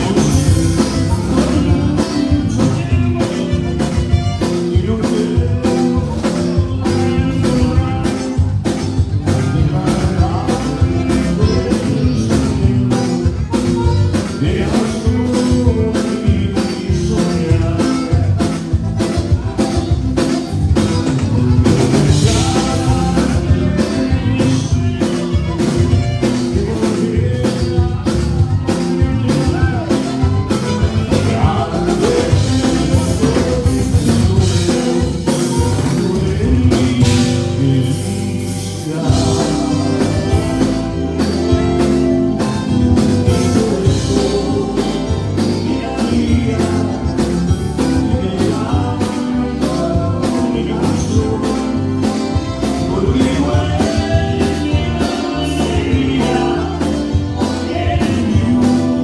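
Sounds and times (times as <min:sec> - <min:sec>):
man singing into a microphone: 0:00.0 - 0:20.7, 0:21.6 - 0:59.0
bass: 0:00.0 - 0:59.0
button accordion: 0:00.0 - 0:59.0
drum kit beat: 0:00.0 - 0:59.0
electric guitars: 0:00.0 - 0:59.0.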